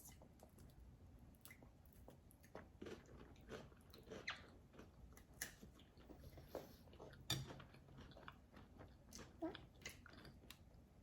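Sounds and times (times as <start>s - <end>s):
chewing crunchy crackers: 1.4s - 11.0s.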